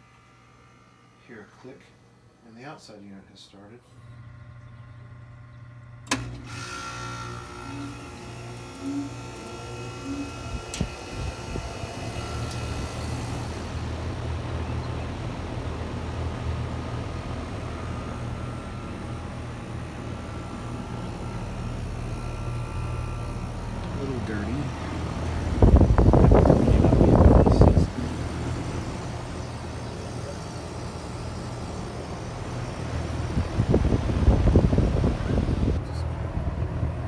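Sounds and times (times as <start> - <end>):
air conditioner compressor hum: 0.0 - 37.0.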